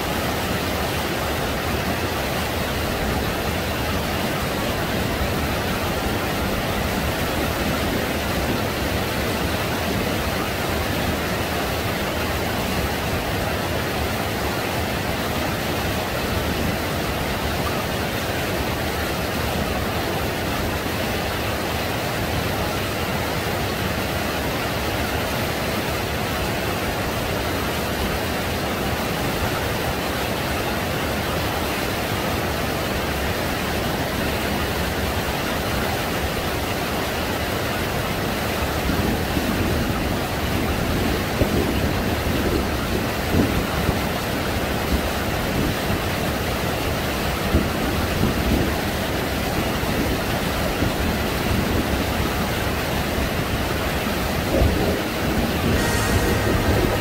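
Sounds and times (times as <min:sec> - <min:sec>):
small waves washing in shallows: 0:00.0 - 0:57.0
wind: 0:00.0 - 0:57.0.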